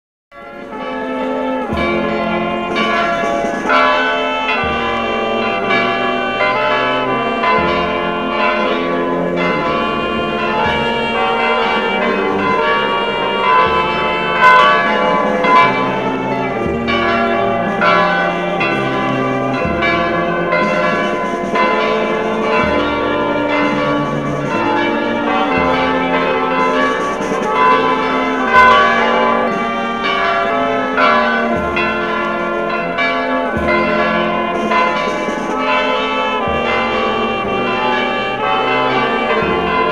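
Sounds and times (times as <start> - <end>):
church bells pealing: 0.4 - 39.9.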